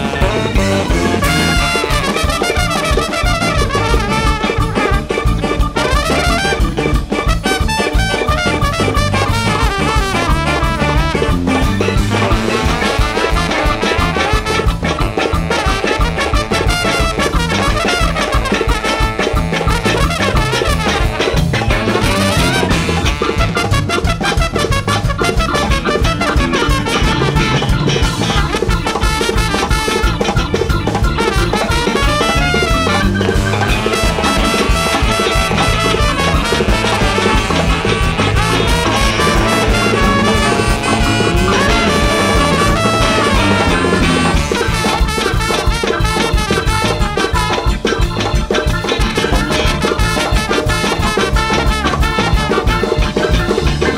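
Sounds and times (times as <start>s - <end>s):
bass: 0.0s - 53.9s
big band jazz: 0.0s - 53.9s
brass and saxophone melody: 0.0s - 53.9s
drum beat: 0.0s - 53.9s
horns and trumpet playing: 0.0s - 53.9s.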